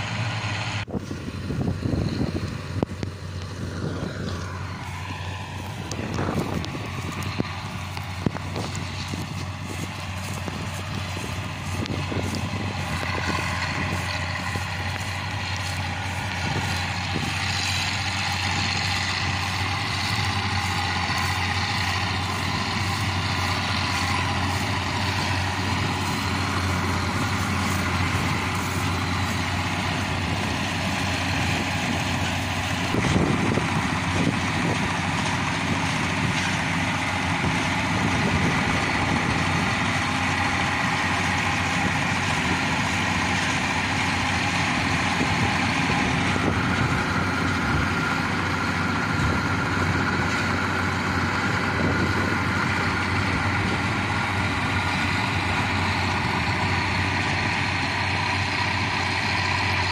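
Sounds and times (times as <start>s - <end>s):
combine harvester diesel engine: 0.0s - 59.9s
threshing machinery clatter: 0.1s - 59.9s.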